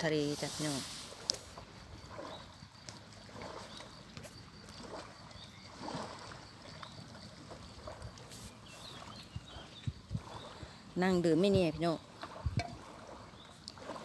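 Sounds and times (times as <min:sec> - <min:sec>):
wind buffeting microphone: 0:00.0 - 0:13.9
lake waves lapping shore: 0:00.0 - 0:14.0.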